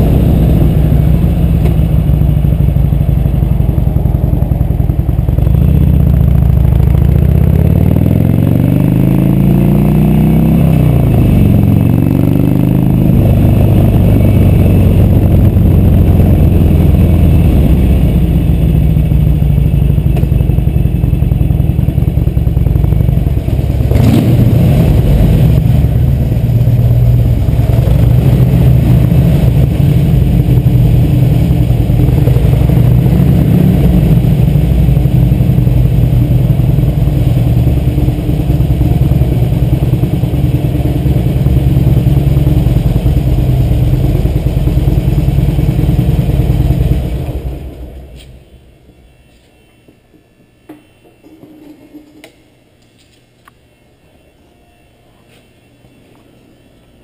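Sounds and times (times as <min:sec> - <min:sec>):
motorcycle engine rumbling: 0:00.0 - 0:49.2.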